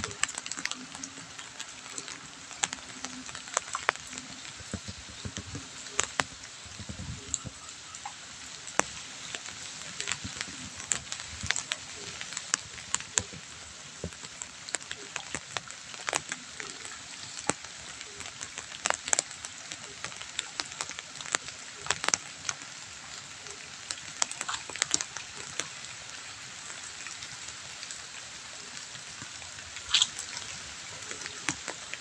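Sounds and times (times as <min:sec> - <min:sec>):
rain hissing: 0:00.0 - 0:32.0
raindrops ticking: 0:00.0 - 0:32.0.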